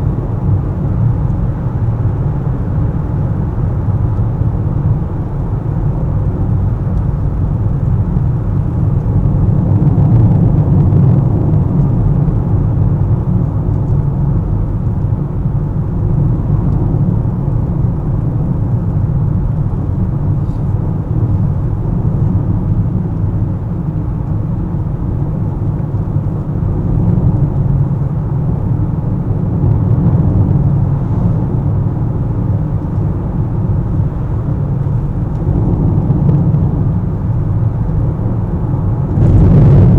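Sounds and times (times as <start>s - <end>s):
car driving along a road: 0.0s - 39.9s.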